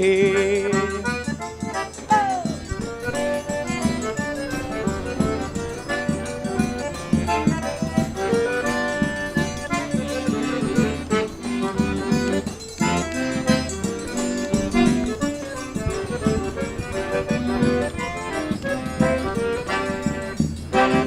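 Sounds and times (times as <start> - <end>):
accordion melody: 0.0 - 21.0
steady rhythmic beat: 0.4 - 21.0.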